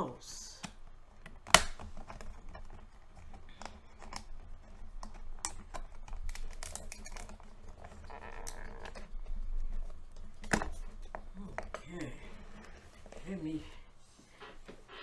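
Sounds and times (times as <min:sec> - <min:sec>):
plastic container crackling: 0:00.6 - 0:15.0.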